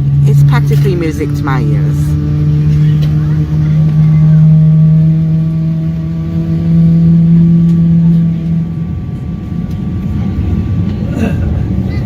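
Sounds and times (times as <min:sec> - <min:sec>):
aircraft mechanical drone: 0:00.0 - 0:12.0
continuous rumble: 0:00.0 - 0:12.0.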